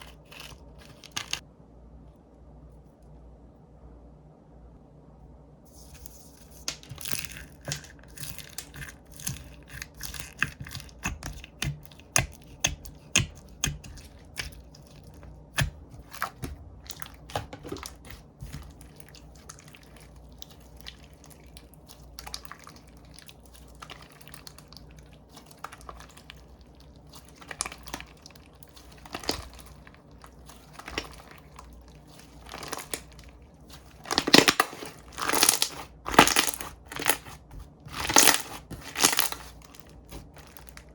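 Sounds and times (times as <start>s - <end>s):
slime clicking and crackling: 6.5s - 40.9s.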